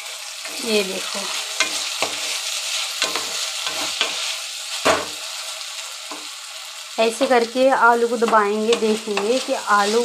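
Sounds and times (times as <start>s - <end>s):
spatula scraping a pan: 0.0s - 6.4s, 8.1s - 10.0s
vegetables sizzling in oil: 0.0s - 10.0s.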